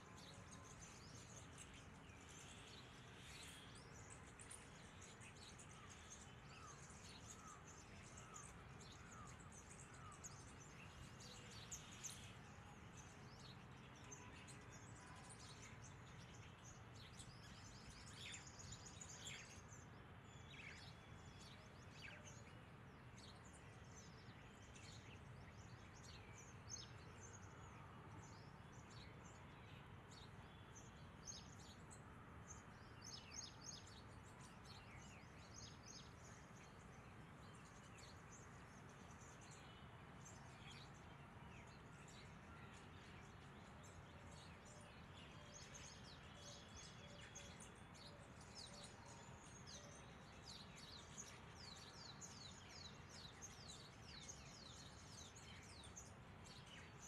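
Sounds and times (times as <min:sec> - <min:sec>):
faint birds chirping: 0:00.0 - 0:57.0
low steady background hiss: 0:00.0 - 0:57.0.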